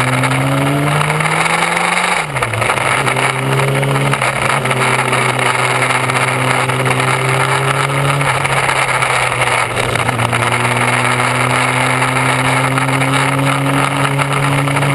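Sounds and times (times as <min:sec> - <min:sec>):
motorcycle engine running: 0:00.0 - 0:14.9
road rush: 0:00.0 - 0:14.9
wind noise: 0:00.0 - 0:14.9.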